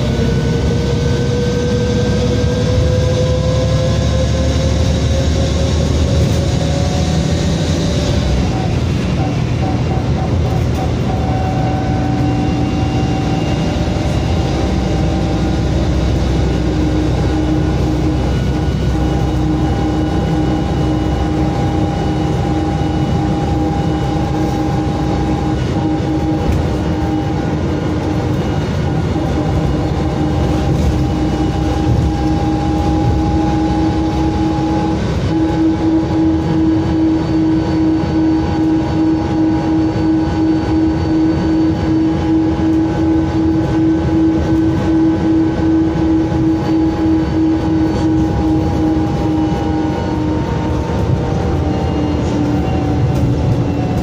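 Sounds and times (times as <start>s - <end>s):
bus diesel engine drone: 0.0s - 54.0s
steady whine: 0.0s - 54.0s.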